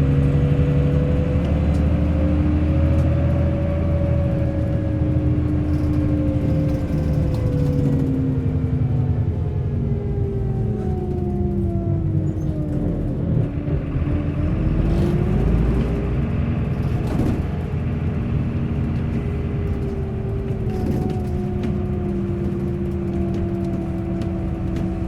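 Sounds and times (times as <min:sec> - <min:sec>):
bus engine rumbling: 0:00.0 - 0:25.0.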